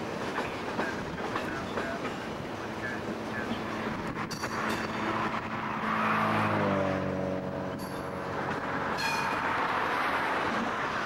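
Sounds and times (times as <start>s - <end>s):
train cars rolling on rails: 0.0s - 11.0s.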